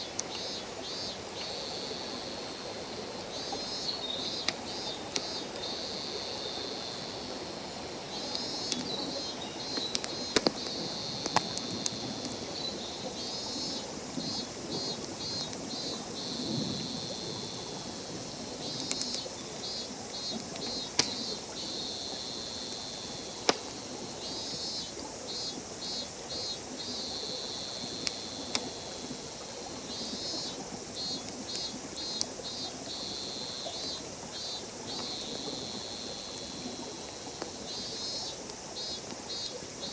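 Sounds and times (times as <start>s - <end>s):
campfire crackling and popping: 0.1s - 1.6s, 3.2s - 5.6s, 8.1s - 12.6s, 13.3s - 39.9s.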